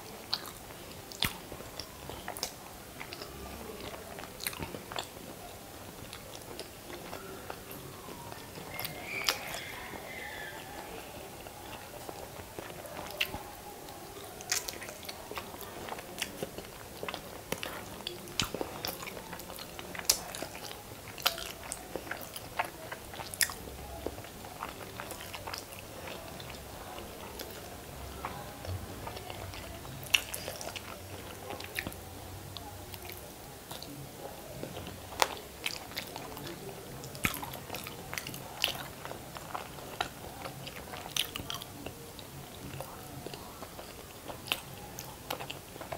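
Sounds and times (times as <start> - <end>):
chewing eggs: 0.0 - 45.9.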